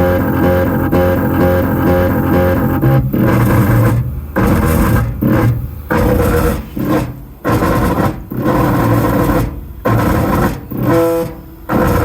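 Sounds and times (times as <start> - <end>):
steady pitched hum: 0.0 - 12.0
stepper motor grinding: 0.0 - 12.0.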